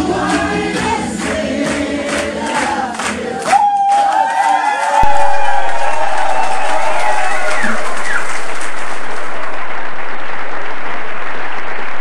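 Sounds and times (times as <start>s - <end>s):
crowd applauding: 0.1s - 12.0s.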